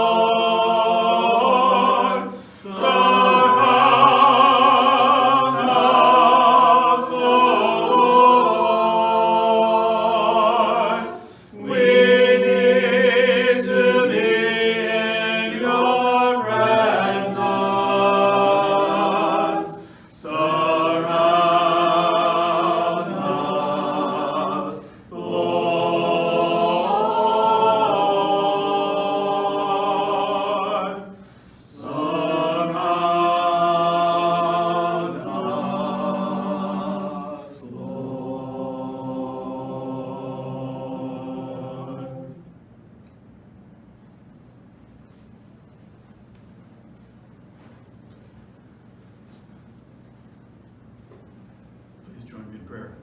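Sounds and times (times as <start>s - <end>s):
choir singing a hymn: 0.0s - 42.5s.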